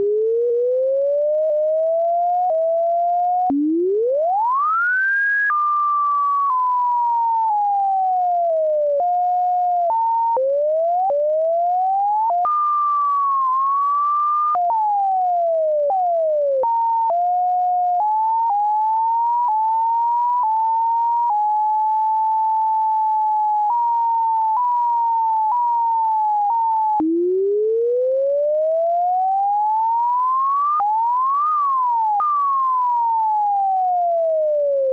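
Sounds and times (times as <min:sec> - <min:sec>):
sine tone gliding in pitch: 0:00.0 - 0:34.9.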